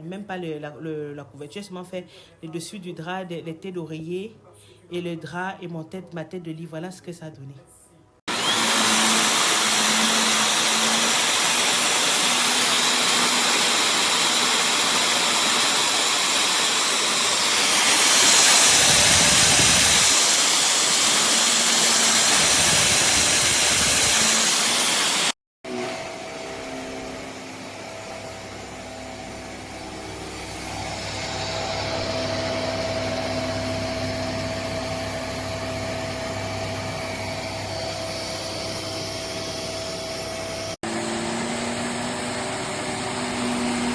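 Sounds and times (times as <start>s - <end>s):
handheld vacuum running: 8.3s - 43.9s
motor whine: 8.3s - 43.9s.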